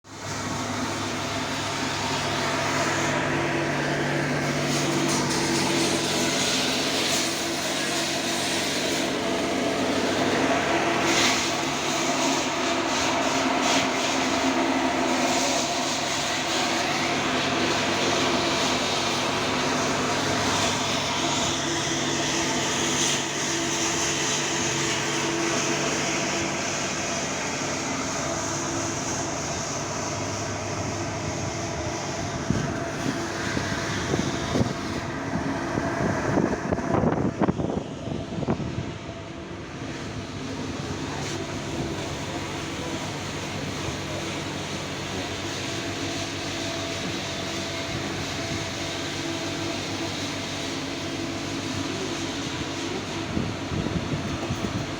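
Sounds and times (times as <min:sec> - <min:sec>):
engine running with mechanical hum: 0:00.0 - 0:54.9.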